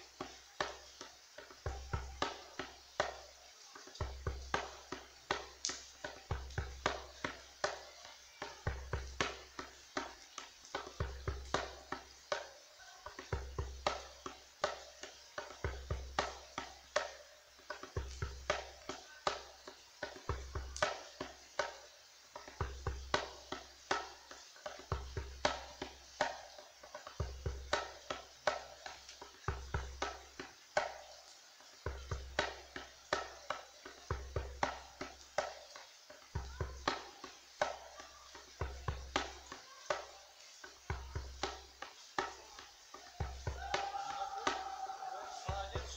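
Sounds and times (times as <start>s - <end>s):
hand drum sharp strikes: 0.2s - 31.2s, 31.8s - 45.9s.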